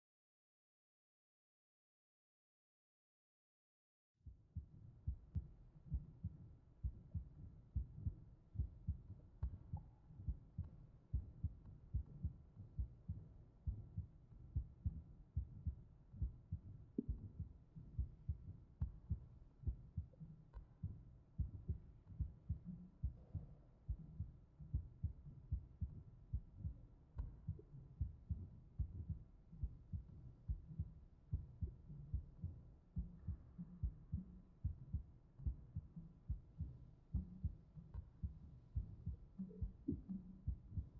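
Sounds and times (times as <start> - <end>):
low thumping pulse: 4.4 - 40.9.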